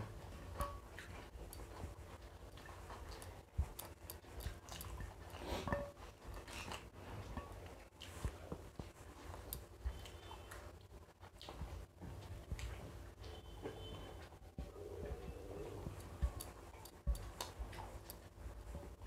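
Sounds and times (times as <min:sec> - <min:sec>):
soft chewing: 0:00.0 - 0:19.0.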